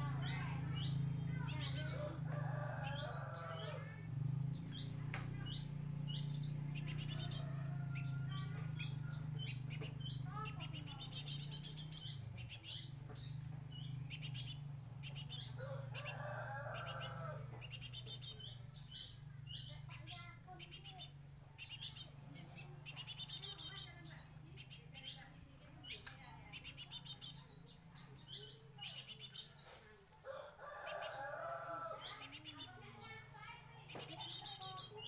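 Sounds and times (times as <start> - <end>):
bird chirping: 4.5 - 35.0.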